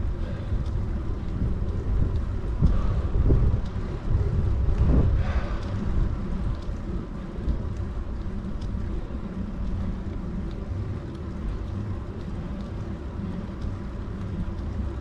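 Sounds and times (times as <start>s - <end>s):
faint ticks: 0.0s - 15.0s
wind rumbling on microphone: 0.0s - 15.0s.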